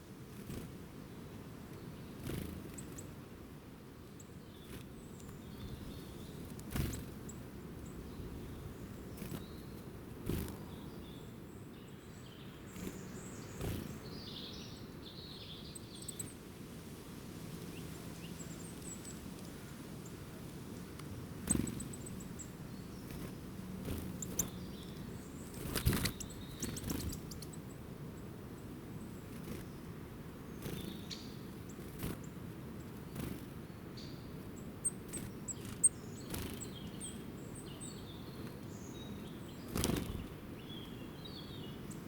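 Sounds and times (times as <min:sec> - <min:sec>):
small birds chirping: 0:00.0 - 0:03.2, 0:04.0 - 0:16.5, 0:17.4 - 0:42.0.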